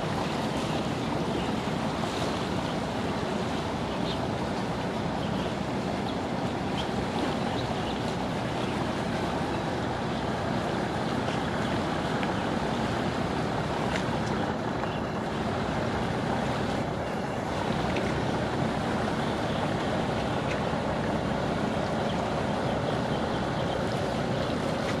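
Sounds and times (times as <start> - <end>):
boat engine droning: 0.0 - 25.0
wind: 0.0 - 25.0.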